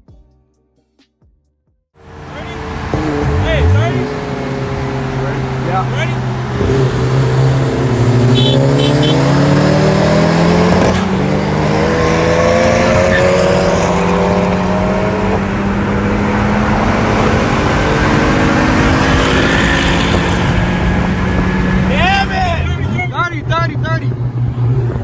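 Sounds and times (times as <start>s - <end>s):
car engine accelerating: 2.0s - 25.0s.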